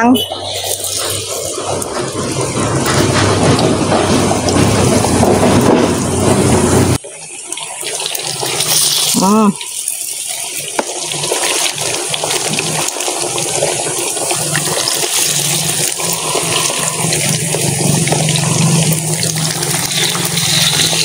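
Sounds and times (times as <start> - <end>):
food deep-frying in hot oil: 0.1 - 21.0.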